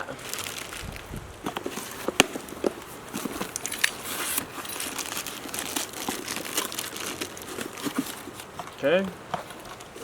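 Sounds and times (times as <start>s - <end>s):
packing paper crinkling: 0.0s - 10.0s.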